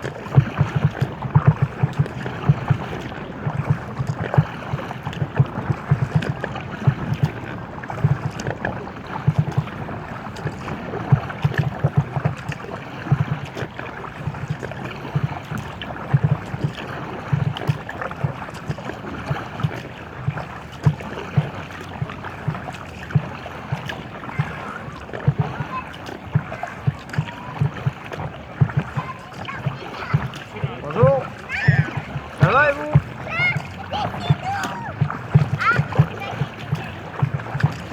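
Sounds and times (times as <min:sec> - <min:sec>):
paddle stroke thumps: 0:00.0 - 0:37.9
water splashing along hull: 0:00.0 - 0:37.9
wind on microphone: 0:00.0 - 0:37.9.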